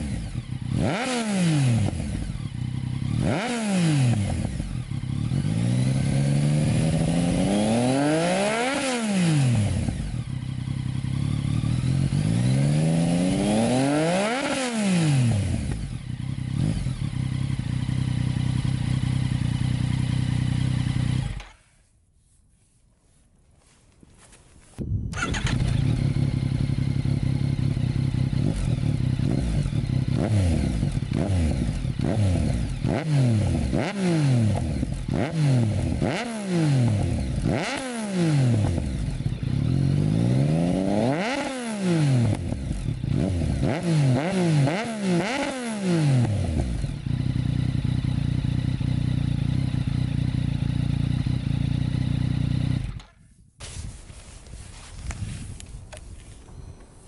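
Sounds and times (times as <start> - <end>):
motorcycle engine idling and revving: 0.0 - 21.9, 23.6 - 57.0.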